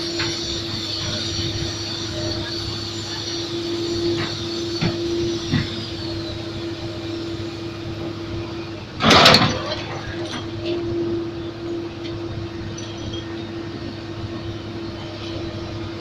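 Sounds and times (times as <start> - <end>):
heavy diesel machinery humming: 0.0 - 16.0.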